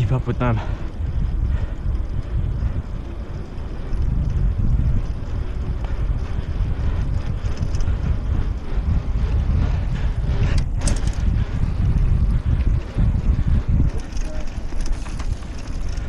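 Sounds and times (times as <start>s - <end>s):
bike tyres rumbling on asphalt: 0.0s - 16.0s
wind buffeting microphone: 0.0s - 16.0s.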